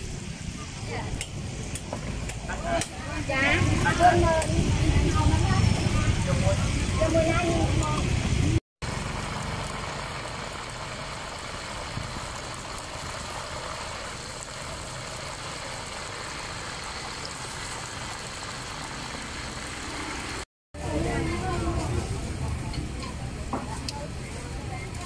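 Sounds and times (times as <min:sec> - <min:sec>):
steady engine-like noise: 0:00.0 - 0:25.0.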